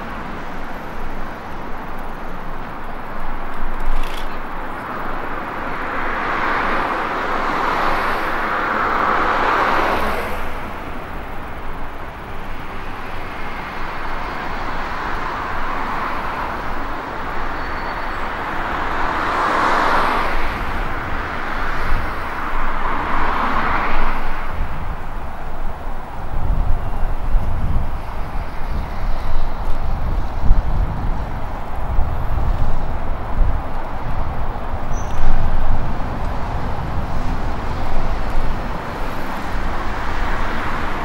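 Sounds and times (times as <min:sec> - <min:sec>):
background traffic noise: 0:00.0 - 0:41.0
vehicles passing: 0:00.0 - 0:41.0.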